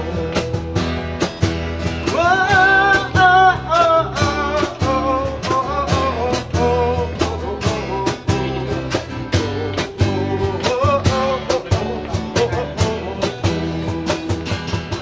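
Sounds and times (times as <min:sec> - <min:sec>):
man singing: 0:00.0 - 0:01.2, 0:01.9 - 0:15.0
acoustic guitar strumming: 0:00.0 - 0:15.0
electric bass: 0:00.0 - 0:15.0.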